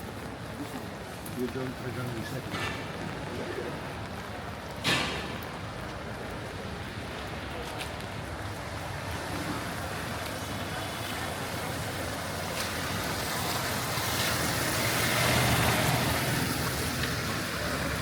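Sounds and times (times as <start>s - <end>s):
car passing on wet street: 0.0s - 18.0s.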